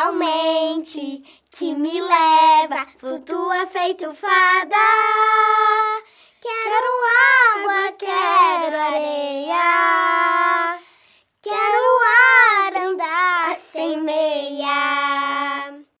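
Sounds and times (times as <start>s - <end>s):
child singing: 0.0s - 16.0s.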